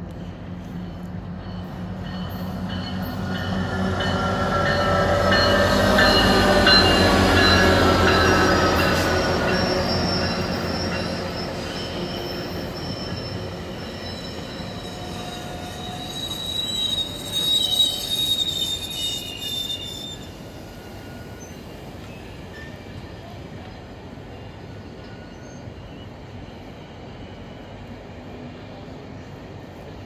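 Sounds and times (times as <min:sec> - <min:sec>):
diesel locomotive engine drone: 0:00.0 - 0:30.0
rumble of passing train cars: 0:00.0 - 0:30.0
train wheel squeal: 0:00.0 - 0:30.0.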